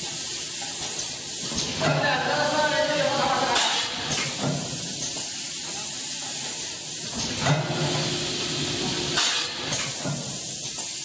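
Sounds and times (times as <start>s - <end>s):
packing machine hissing: 0.0s - 11.0s.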